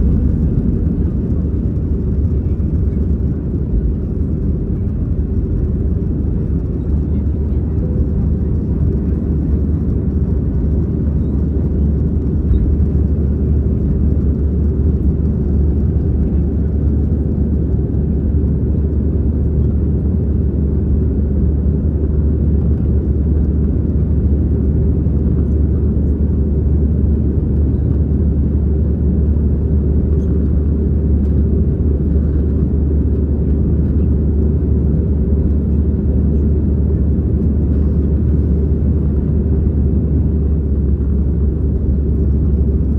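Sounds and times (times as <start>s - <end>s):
jet engines and airflow rumble: 0.0s - 42.9s.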